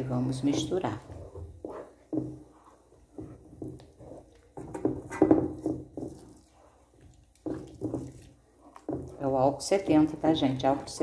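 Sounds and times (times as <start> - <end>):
squelching and scraping in a pan: 0.0 - 11.0
wooden spoon stirring sticky mix: 0.0 - 11.0.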